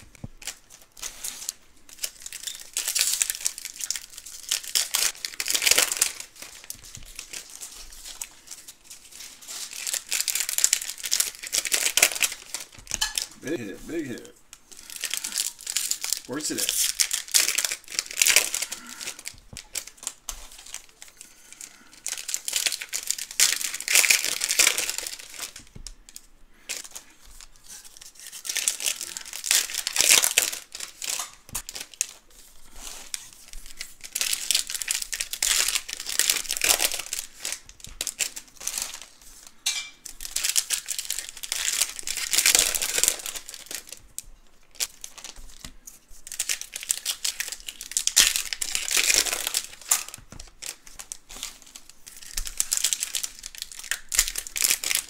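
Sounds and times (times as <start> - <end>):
packaging crinkling and tearing: 0.0 - 55.0.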